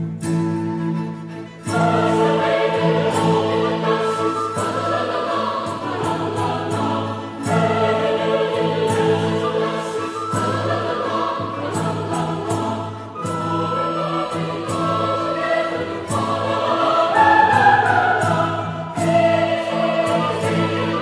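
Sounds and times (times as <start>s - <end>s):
choir singing held chords: 1.5s - 21.0s.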